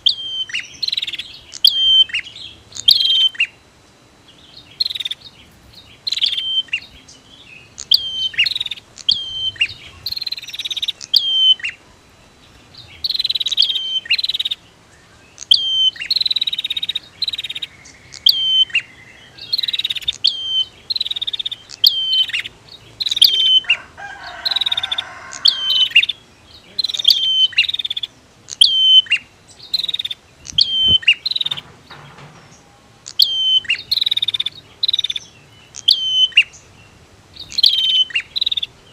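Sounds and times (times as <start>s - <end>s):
birds calling sharp high notes: 0.0s - 38.9s
buzzy bird trills: 0.0s - 38.9s.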